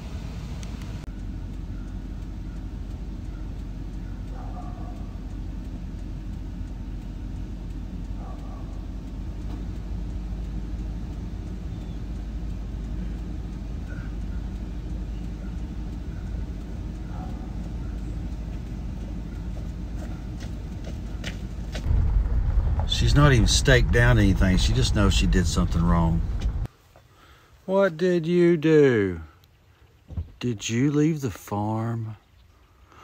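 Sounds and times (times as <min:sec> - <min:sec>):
vehicle engine idling: 0:00.0 - 0:27.4.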